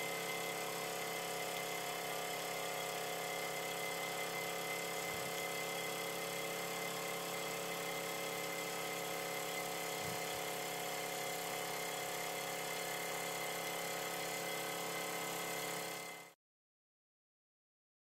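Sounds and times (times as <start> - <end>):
steam engine mechanical whirr: 0.0 - 16.3.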